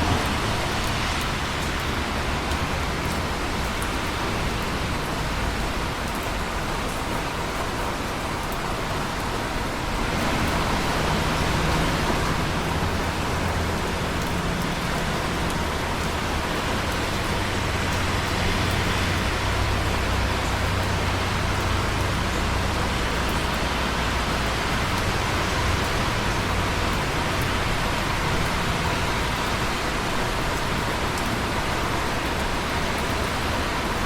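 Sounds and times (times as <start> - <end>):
heavy rainfall: 0.0 - 34.0.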